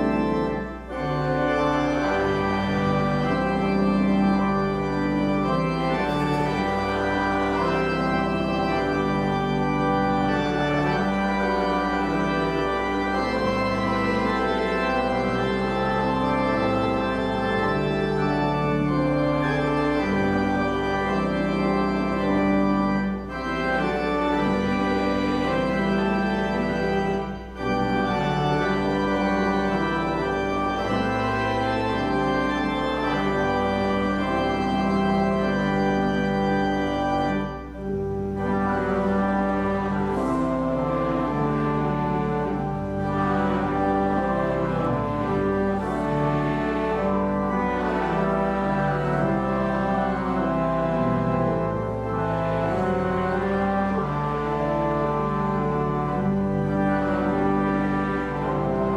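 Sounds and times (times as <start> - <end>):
church organ chords: 0.0 - 58.9.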